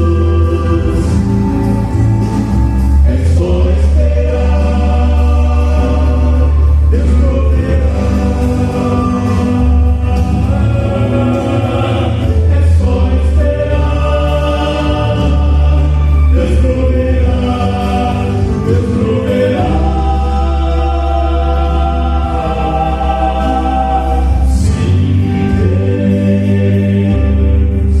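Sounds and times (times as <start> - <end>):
musical backing: 0.0 - 28.0
vocal quartet singing a hymn: 0.0 - 28.0.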